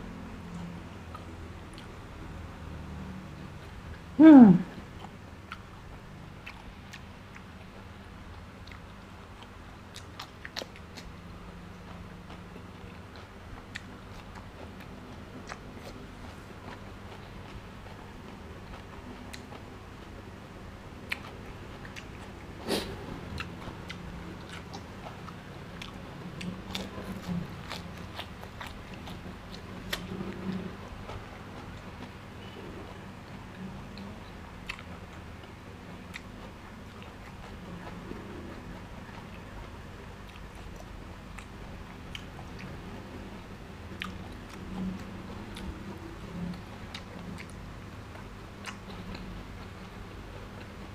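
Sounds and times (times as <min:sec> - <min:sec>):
man chewing food: 0:00.5 - 0:02.3, 0:03.4 - 0:50.9.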